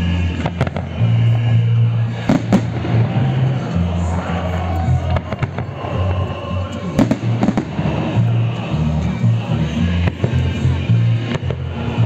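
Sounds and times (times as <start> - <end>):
fireworks bangs: 0.0 - 8.4, 9.9 - 12.0
music with deep bass: 0.0 - 12.0.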